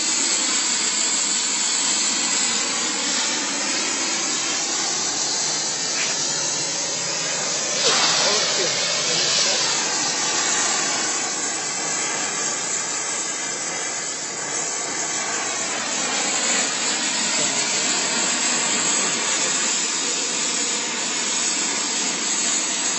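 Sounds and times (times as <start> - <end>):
briquettes burning with rushing hiss: 0.0 - 22.9.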